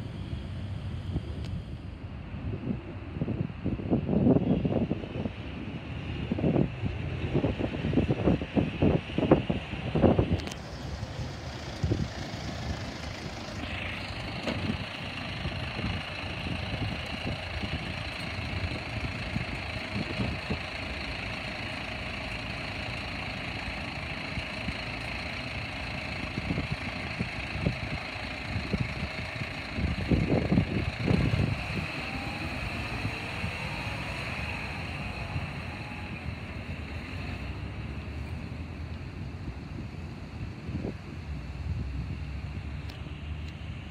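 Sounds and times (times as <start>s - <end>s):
garbage truck diesel engine: 0.0s - 43.9s
low rumbles: 0.0s - 43.9s
steady high whine: 0.0s - 43.9s.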